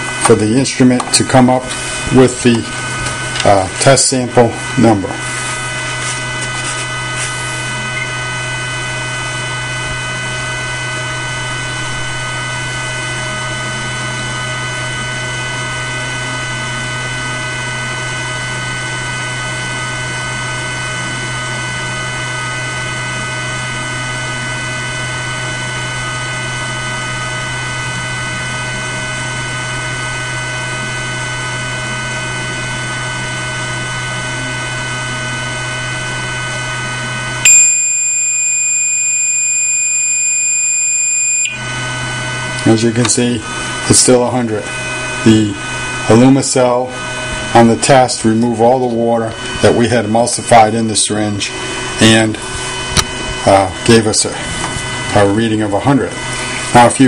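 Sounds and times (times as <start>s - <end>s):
instrument electric hum: 0.0s - 57.0s.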